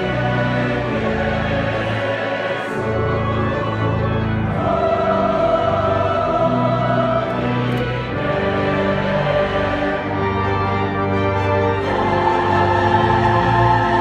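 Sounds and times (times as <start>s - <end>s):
choir singing: 0.0s - 14.0s
symphony orchestra: 0.0s - 14.0s.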